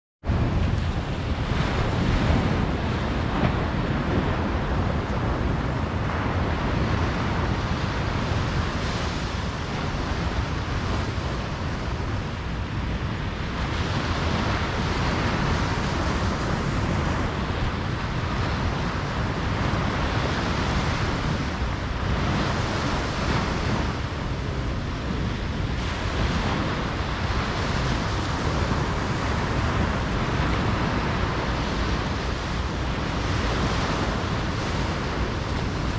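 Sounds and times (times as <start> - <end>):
ocean surf washing onto beach: 0.3 - 35.9.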